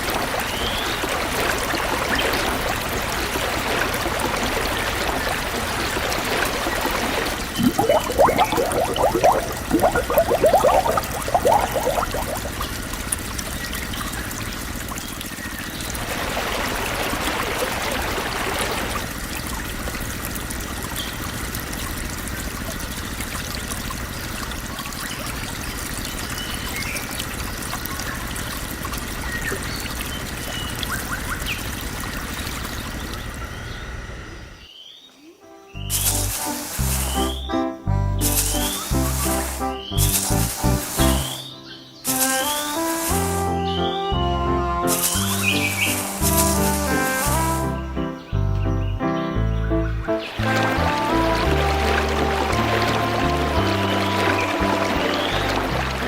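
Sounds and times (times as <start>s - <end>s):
water pouring and trickling: 0.0s - 33.4s, 35.9s - 37.4s, 38.2s - 41.4s, 44.9s - 47.6s, 50.2s - 56.0s.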